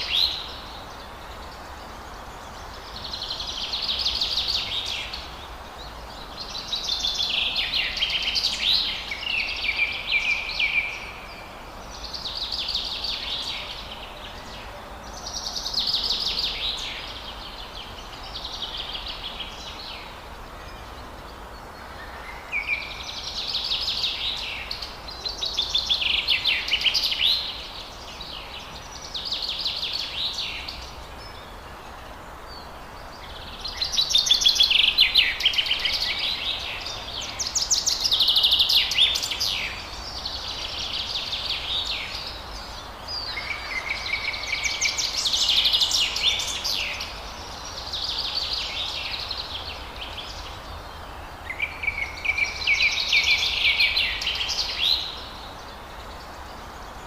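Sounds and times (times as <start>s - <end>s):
birdsong: 0.0s - 57.0s
steady background hiss: 0.0s - 57.0s.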